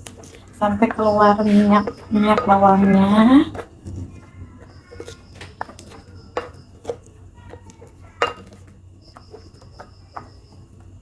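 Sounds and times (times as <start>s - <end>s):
utensil knocking and scraping dish: 0.1s - 11.0s.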